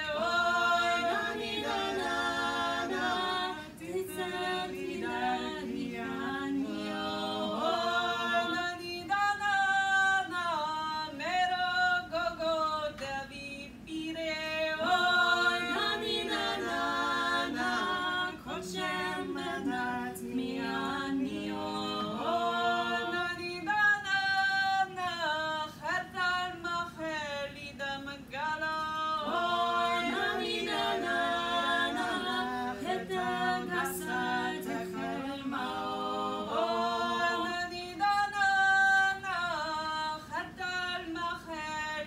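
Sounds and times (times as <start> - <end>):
women singing a cappella harmony: 0.0 - 42.0.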